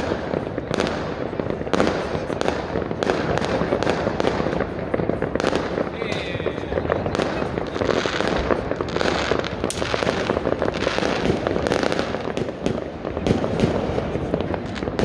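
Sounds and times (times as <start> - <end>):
fireworks and firecrackers crackling: 0.0 - 15.0.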